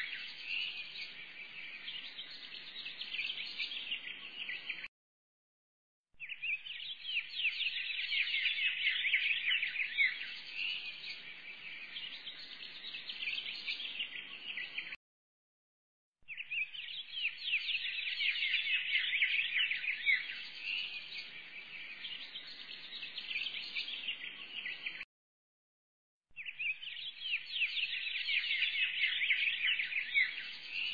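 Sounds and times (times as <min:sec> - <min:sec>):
many birds chirping: 0:00.0 - 0:04.9, 0:06.2 - 0:15.0, 0:16.3 - 0:25.0, 0:26.4 - 0:30.9.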